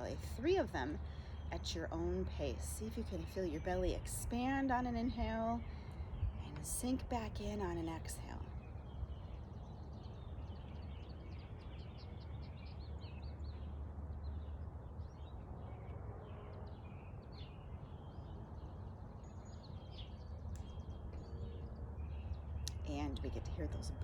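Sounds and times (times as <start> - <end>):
songbirds chirping and singing: 0.0 - 24.0
steady low rumble: 0.0 - 24.0.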